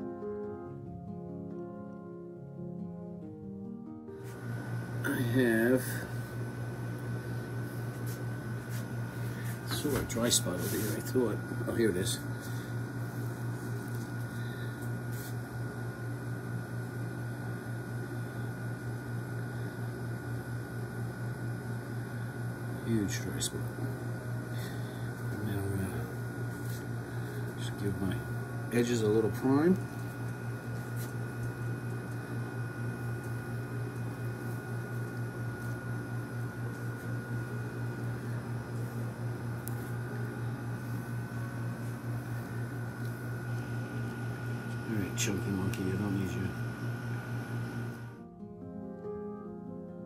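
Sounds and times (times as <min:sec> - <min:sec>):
steady low hum: 0:00.0 - 0:48.3.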